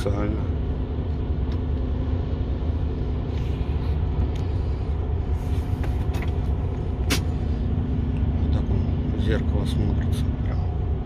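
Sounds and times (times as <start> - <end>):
diesel engine low rumble: 0.0 - 11.0.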